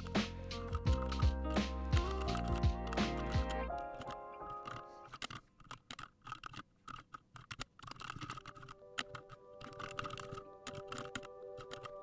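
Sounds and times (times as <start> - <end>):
keyboard typing: 0.0 - 12.0.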